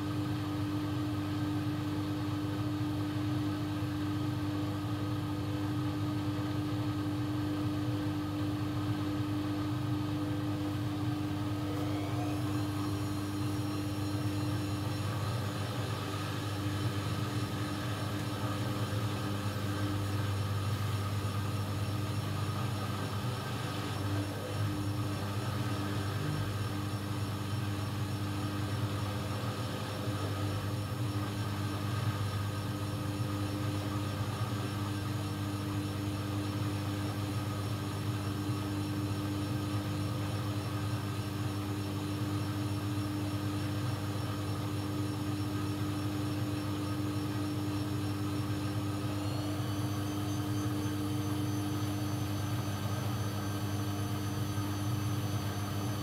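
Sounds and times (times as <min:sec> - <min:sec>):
washing machine spinning: 0:00.0 - 0:56.0
high motor whine: 0:10.6 - 0:56.0.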